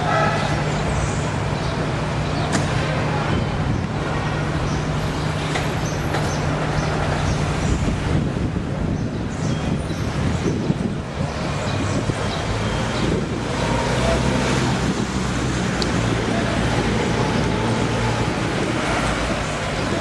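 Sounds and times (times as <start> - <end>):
car engines humming: 0.0 - 20.0
city noise: 0.0 - 20.0.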